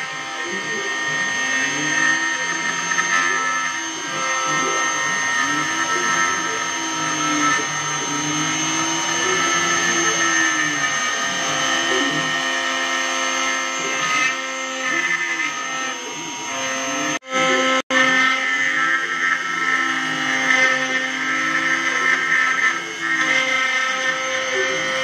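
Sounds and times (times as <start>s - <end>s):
router spindle whine cutting wood: 0.0s - 25.0s
stepper motors humming: 0.0s - 25.0s.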